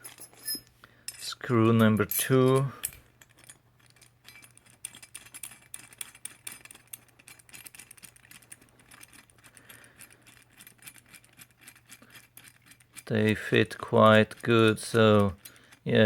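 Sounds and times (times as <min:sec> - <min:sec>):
screwdriver clicking and scraping: 0:00.0 - 0:16.0.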